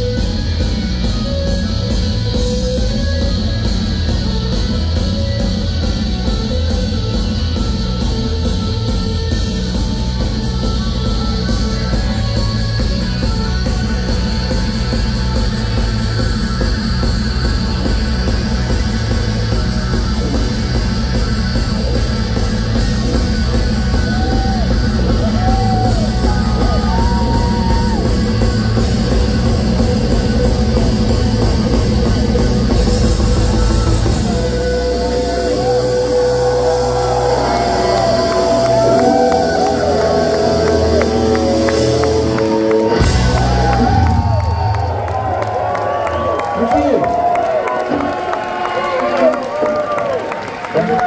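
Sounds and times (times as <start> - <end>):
rock band playing live: 0.0 - 51.0.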